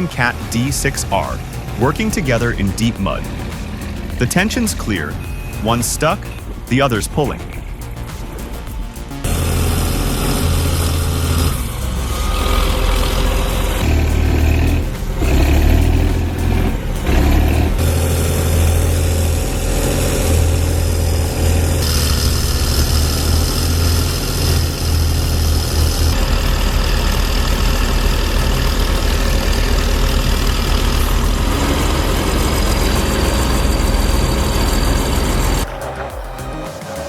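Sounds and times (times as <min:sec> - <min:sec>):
bulldozer diesel engines under load: 0:00.0 - 0:37.0.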